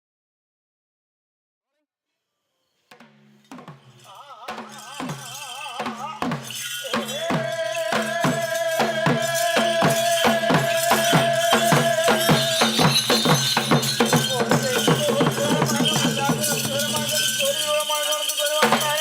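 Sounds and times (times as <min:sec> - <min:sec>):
drum strokes with jingling rattle: 0:02.9 - 0:19.0.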